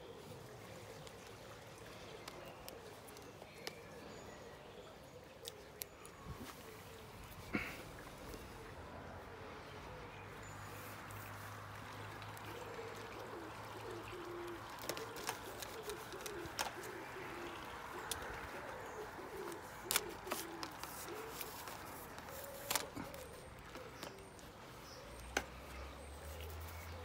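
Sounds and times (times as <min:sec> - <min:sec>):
pigeon cooing: 0:00.0 - 0:27.0.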